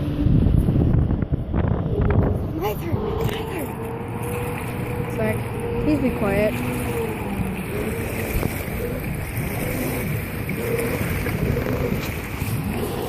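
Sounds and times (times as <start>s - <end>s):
boat engine running: 0.0s - 13.0s
wind and water rushing: 0.0s - 13.0s.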